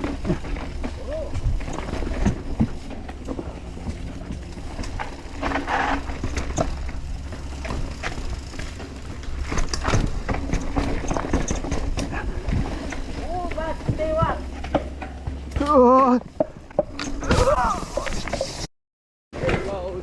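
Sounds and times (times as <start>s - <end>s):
bike chain and frame rattle: 0.0s - 18.5s
bike tyre rumble on dirt: 0.0s - 18.7s.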